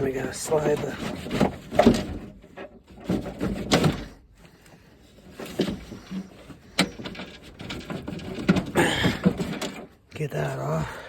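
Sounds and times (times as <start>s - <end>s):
clicks knocks and scrapes of parts: 0.0s - 10.5s.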